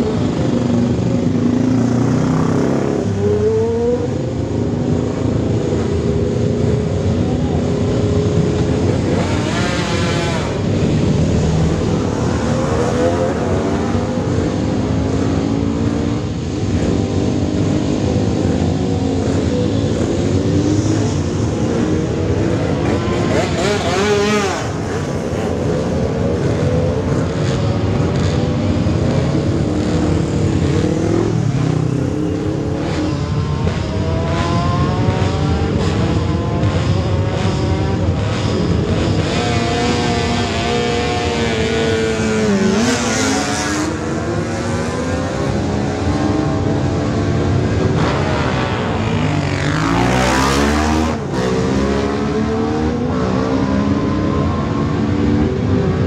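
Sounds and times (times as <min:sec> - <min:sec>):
motorcycle engines revving: 0:00.0 - 0:56.0
motorcycle revving and pulling away: 0:00.0 - 0:56.0.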